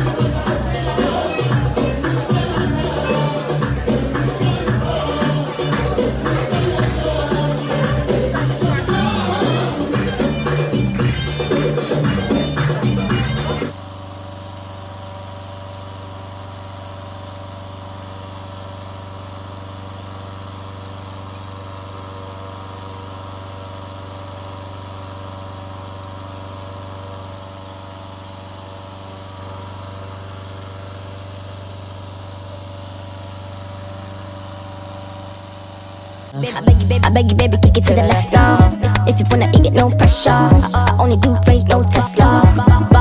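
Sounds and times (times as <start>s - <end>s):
inflator fan droning: 0.0s - 43.0s.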